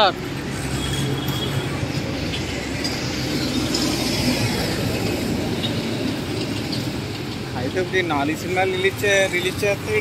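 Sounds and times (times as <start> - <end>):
auto-rickshaw engine and road rumble: 0.0 - 10.0.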